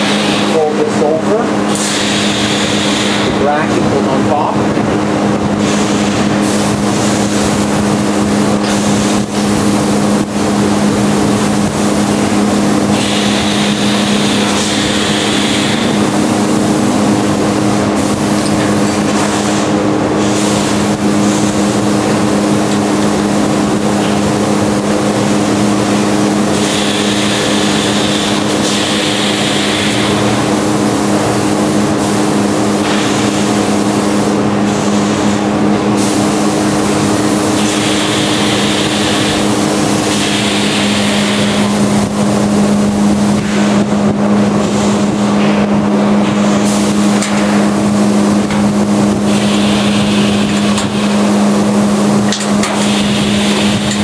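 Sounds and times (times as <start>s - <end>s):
machinery drone: 0.0s - 54.0s.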